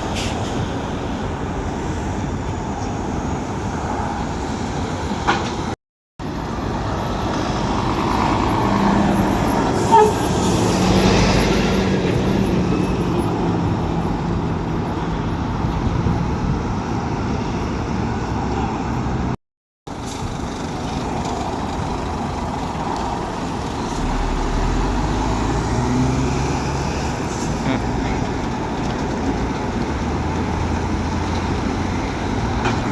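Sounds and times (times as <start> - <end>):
road traffic rumble: 0.0 - 32.9.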